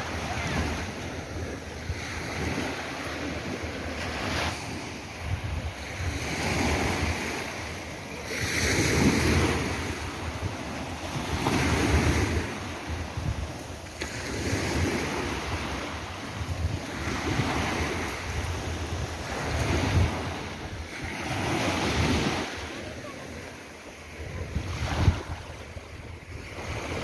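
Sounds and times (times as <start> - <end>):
wind buffeting microphone: 0.0 - 22.6, 23.9 - 27.0
sea waves breaking: 0.0 - 27.0.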